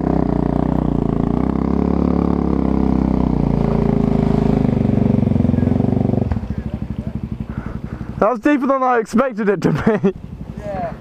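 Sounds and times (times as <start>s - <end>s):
motorcycle engine under load: 0.0s - 8.7s, 9.6s - 11.0s.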